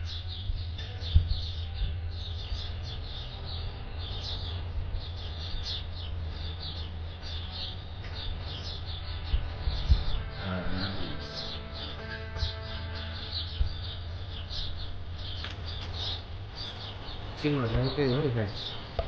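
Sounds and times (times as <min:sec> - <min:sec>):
small birds chirping: 0:00.0 - 0:19.0
steady low rumble: 0:00.0 - 0:19.0.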